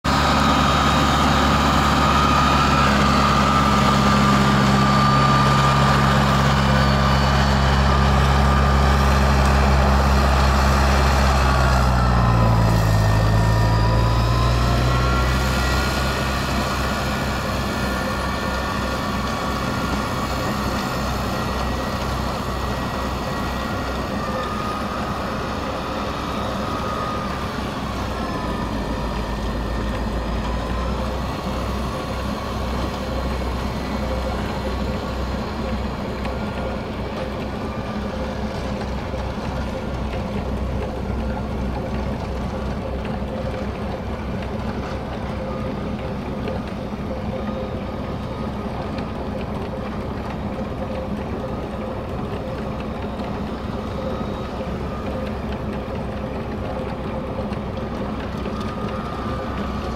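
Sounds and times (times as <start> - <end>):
snowblower whine: 0.0 - 59.9
tractor engine running: 0.0 - 59.9.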